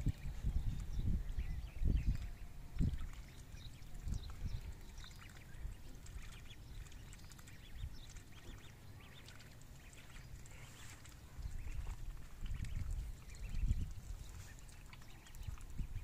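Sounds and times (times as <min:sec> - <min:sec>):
ducklings peeping: 0:00.0 - 0:16.0.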